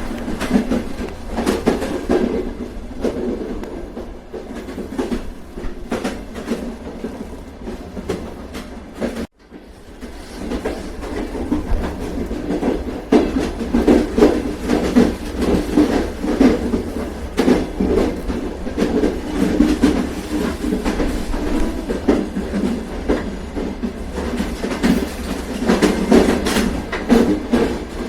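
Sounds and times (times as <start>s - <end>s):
train wheels clattering over rail joints: 0.0s - 28.0s.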